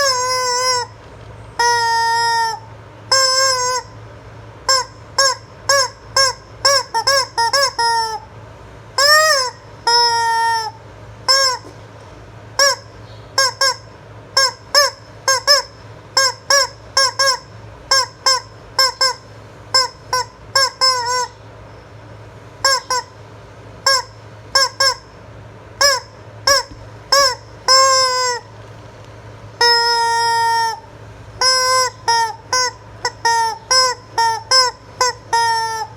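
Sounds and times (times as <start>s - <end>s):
rubber chicken toy squawking: 0.0s - 1.0s, 1.6s - 4.0s, 4.6s - 8.3s, 9.0s - 11.8s, 12.6s - 21.4s, 22.6s - 23.2s, 23.8s - 25.2s, 25.8s - 28.5s, 29.6s - 35.9s.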